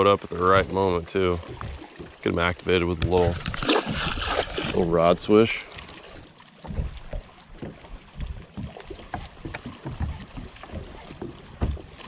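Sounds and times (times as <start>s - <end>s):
waves slapping against boat hull: 0.0s - 12.0s.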